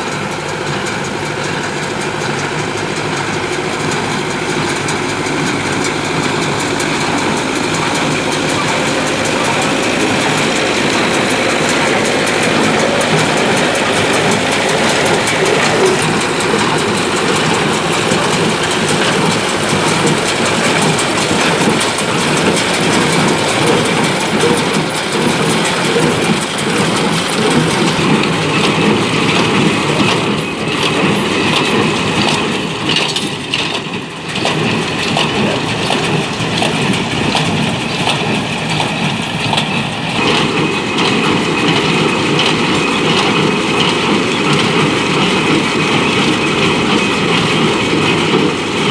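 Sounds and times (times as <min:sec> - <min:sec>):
baler mechanical clatter: 0:00.0 - 0:48.9
tractor engine drone: 0:00.0 - 0:48.9.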